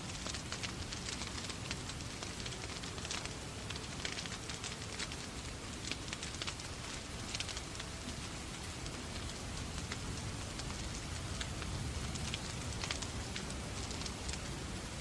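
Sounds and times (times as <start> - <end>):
fireplace fire crackling: 0.0 - 15.0
steady rain: 0.0 - 15.0.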